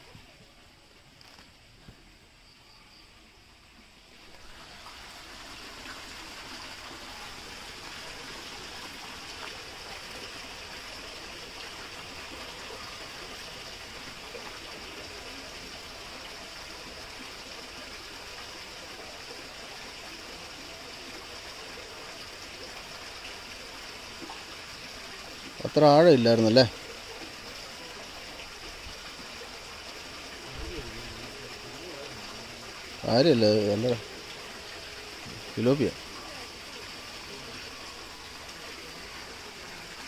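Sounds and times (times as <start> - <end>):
running water rushing: 3.2 - 40.0.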